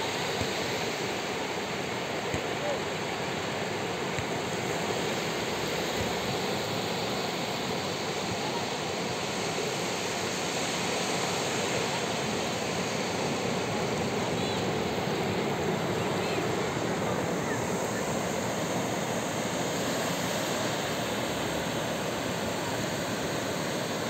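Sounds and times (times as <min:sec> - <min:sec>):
ocean surf washing on beach: 0:00.0 - 0:24.0.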